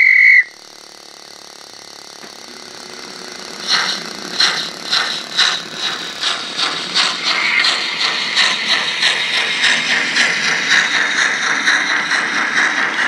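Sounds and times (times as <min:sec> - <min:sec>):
steam hiss: 0:00.0 - 0:13.0
steam locomotive exhaust chuffs: 0:00.0 - 0:13.0.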